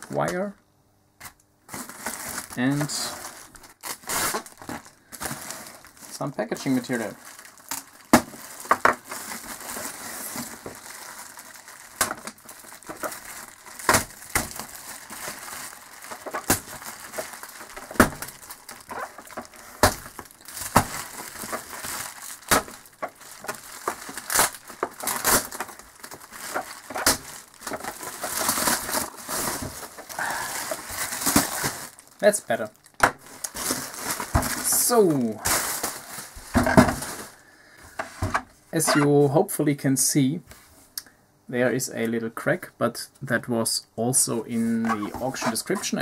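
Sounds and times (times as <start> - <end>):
bubble wrap crackles: 1.2 - 37.5, 44.5 - 46.0
plastic crinkling and rustling: 1.2 - 39.2, 44.6 - 46.0.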